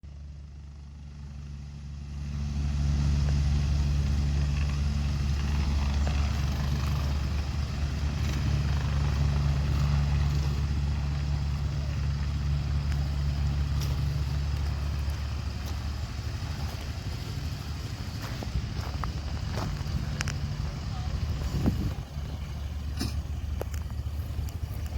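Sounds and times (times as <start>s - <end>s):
helicopter turbine and rotor: 0.1s - 24.9s.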